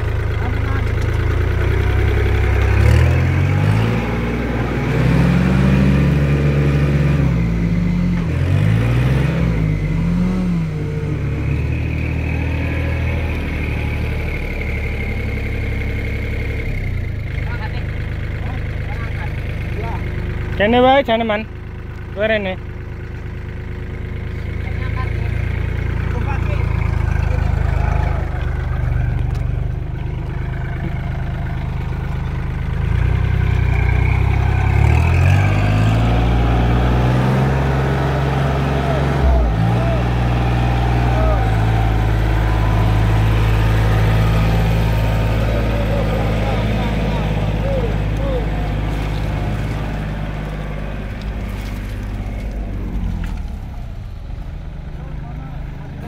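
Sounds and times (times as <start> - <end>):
tractor diesel engine: 0.0 - 56.0.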